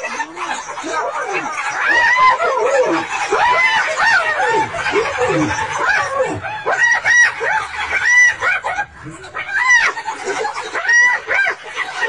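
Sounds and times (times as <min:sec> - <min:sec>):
wild dogs yelping and squealing: 0:00.0 - 0:12.0.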